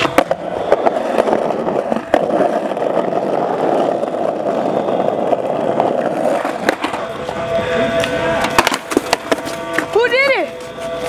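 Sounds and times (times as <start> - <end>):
skateboard wheels clacking on cracks: 0.0 - 11.0
skateboard wheels rolling: 0.0 - 11.0.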